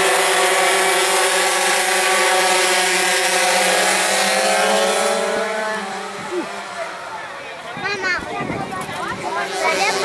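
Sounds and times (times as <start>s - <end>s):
pocket bike engines buzzing: 0.0s - 4.8s, 5.4s - 10.0s.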